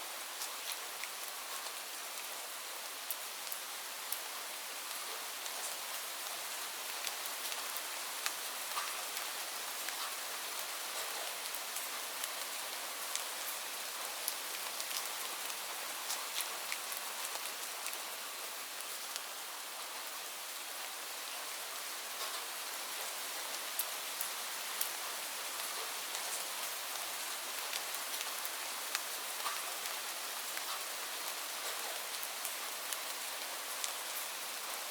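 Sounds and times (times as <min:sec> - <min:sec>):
steady rainfall: 0:00.0 - 0:34.9.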